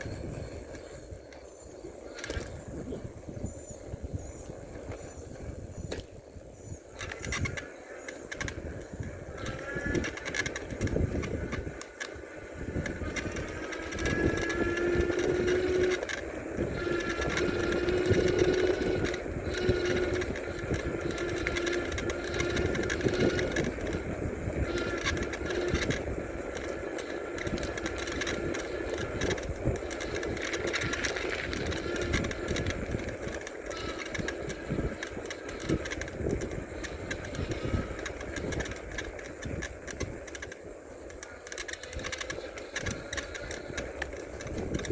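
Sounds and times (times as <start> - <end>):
bicycle tyre hum: 0.0 - 44.9
faint steady whine: 0.0 - 44.9
wind on microphone: 0.0 - 44.9
rattle of loose parts: 7.0 - 44.9.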